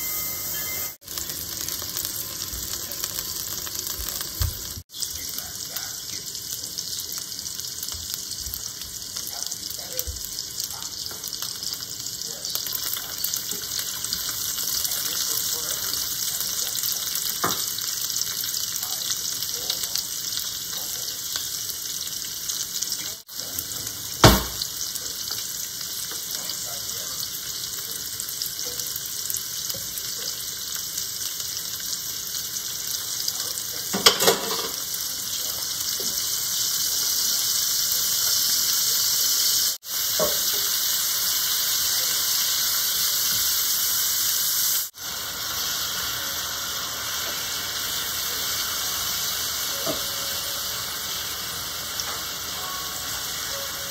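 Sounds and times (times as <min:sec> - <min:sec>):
onions sizzling in hot oil: 0:00.0 - 0:53.9.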